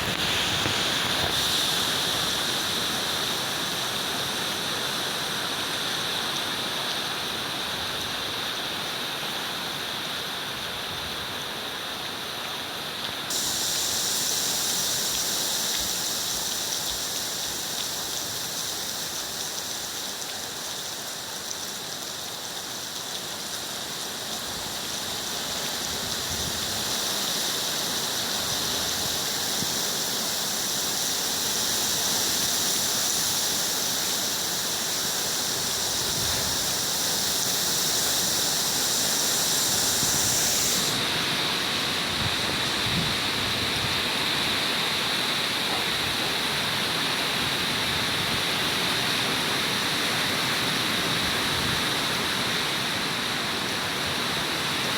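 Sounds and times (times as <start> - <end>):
heavy rain in strong wind: 0.0 - 54.9.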